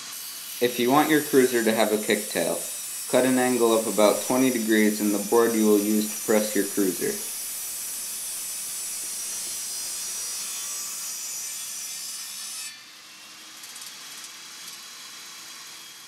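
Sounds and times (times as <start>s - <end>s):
table saw cutting board: 0.0s - 16.0s.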